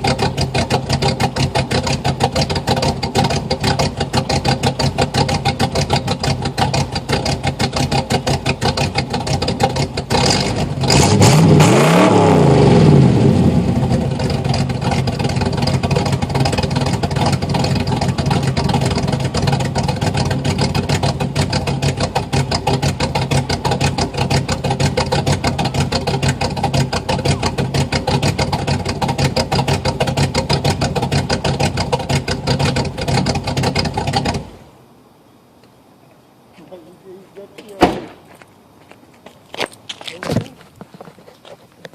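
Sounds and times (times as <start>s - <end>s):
car engine idling with lope: 0.0s - 34.9s.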